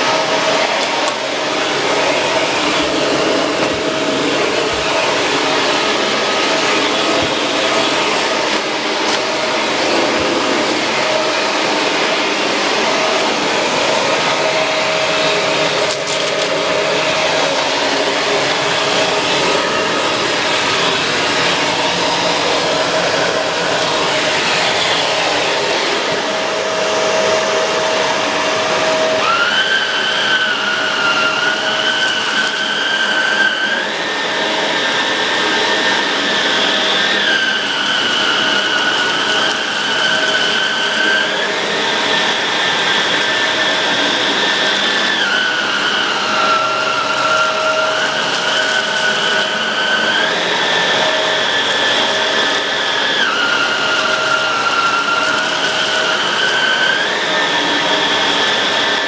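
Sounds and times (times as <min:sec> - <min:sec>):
higher motor whine: 0:00.0 - 0:59.0
vacuum cleaner running: 0:00.0 - 0:59.0.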